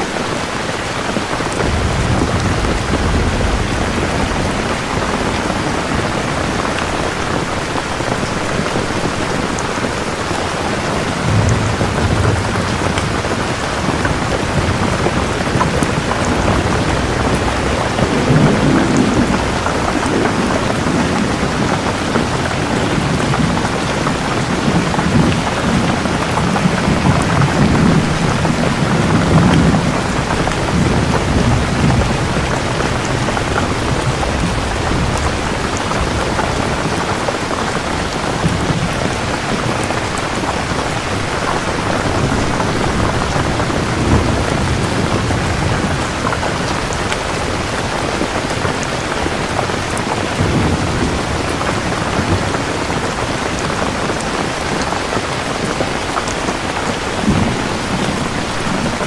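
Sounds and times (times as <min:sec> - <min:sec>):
steady rain falling: 0:00.0 - 0:59.0
low rolling thunder: 0:00.7 - 0:59.0.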